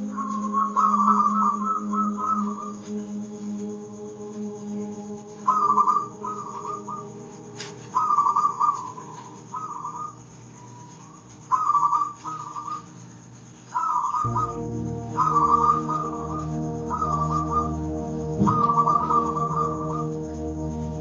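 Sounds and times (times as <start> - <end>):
dove cooing in trills: 0.0 - 12.9, 13.8 - 21.0
soft sustained instrumental tones: 0.0 - 21.0.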